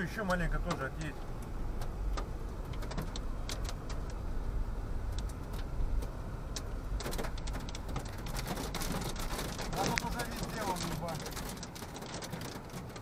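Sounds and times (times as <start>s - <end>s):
raindrops ticking on car roof: 0.0s - 13.0s
road and engine rumble: 0.0s - 13.0s.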